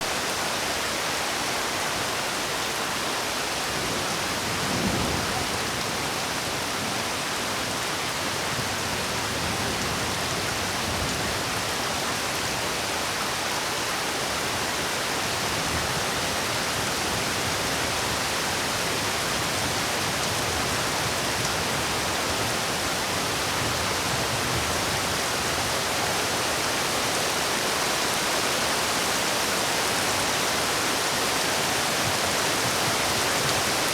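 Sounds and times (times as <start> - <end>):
dense rainfall: 0.0 - 33.9.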